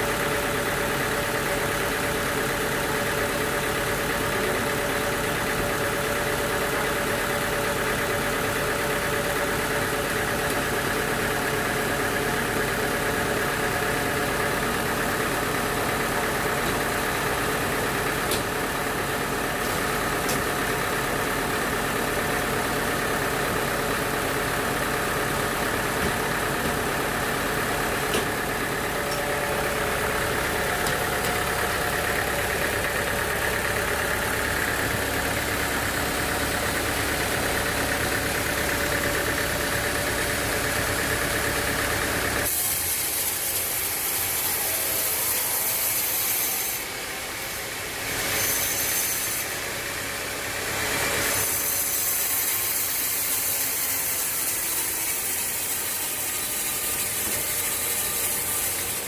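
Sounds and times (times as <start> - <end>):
high hissing mechanical noise: 0.0 - 59.0
sawmill engine running: 0.0 - 59.0.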